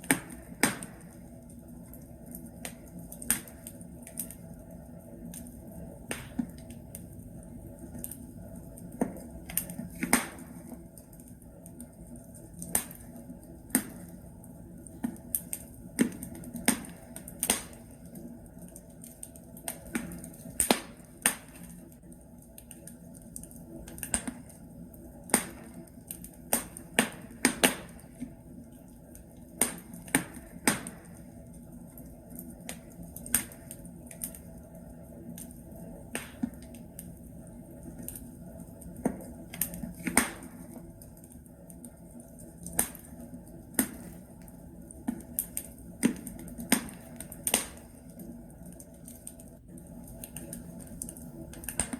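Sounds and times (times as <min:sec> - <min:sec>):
logs crackling and popping: 0:00.0 - 0:51.9
low hiss of fire: 0:00.0 - 0:51.9.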